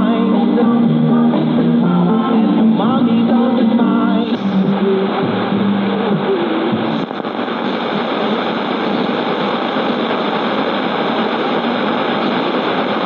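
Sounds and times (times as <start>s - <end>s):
faint radio music: 0.0s - 13.0s
radio static hiss: 0.0s - 13.0s.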